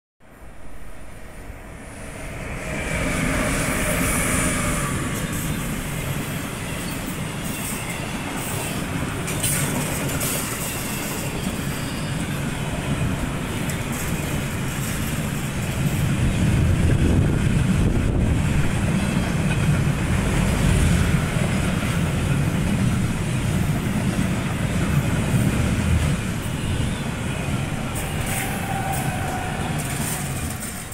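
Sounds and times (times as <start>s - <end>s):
train wheels rumbling on rails: 1.0s - 30.9s.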